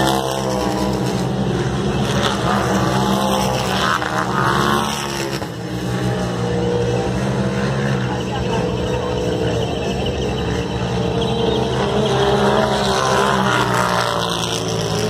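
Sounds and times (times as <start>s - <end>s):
off-road engines droning: 0.0s - 15.0s.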